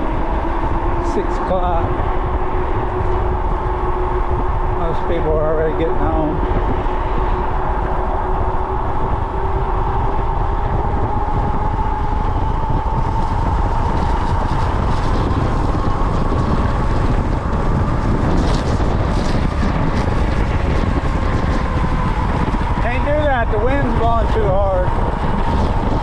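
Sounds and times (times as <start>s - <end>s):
rising whine: 0.0s - 26.0s
vehicle rumble: 0.0s - 26.0s
wind noise: 0.0s - 26.0s.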